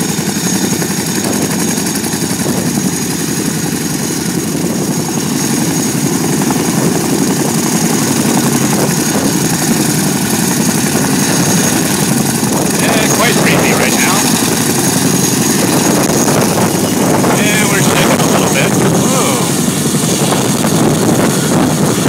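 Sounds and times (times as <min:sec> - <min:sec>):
helicopter engine whine: 0:00.0 - 0:22.0
helicopter rotors chopping: 0:00.0 - 0:22.0.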